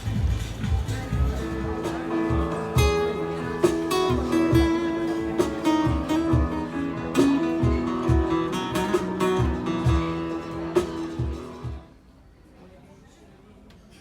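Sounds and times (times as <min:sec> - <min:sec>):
steady drum beat: 0:00.0 - 0:11.9
strummed acoustic guitar: 0:00.0 - 0:11.9.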